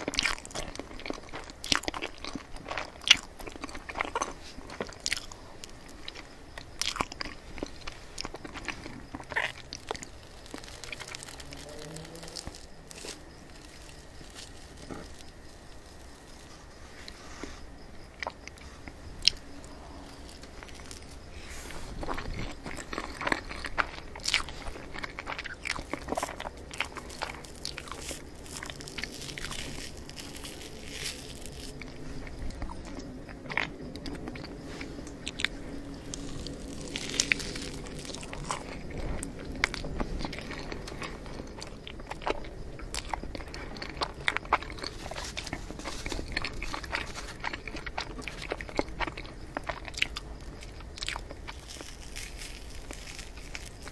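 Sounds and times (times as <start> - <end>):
wet chewing and mouth smacks: 0.0 - 16.8, 18.0 - 53.9.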